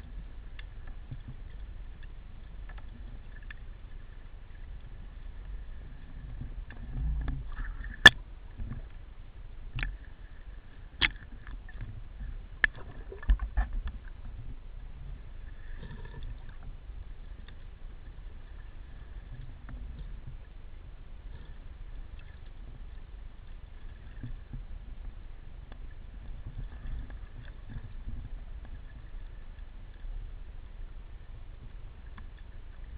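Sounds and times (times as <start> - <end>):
underwater rumble of moving water: 0.0 - 32.9.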